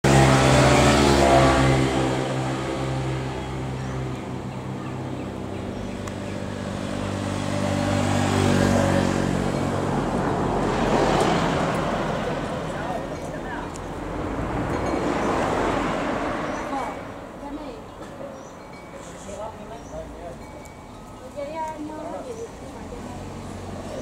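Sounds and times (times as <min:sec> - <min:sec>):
road noise: 0:00.0 - 0:24.0
vehicles passing: 0:00.0 - 0:24.0.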